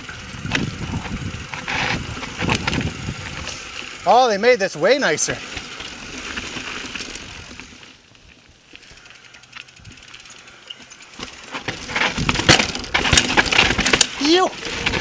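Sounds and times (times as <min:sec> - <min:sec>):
bike clattering over rough ground: 0:00.0 - 0:15.0
bike tyres rolling: 0:00.0 - 0:15.0.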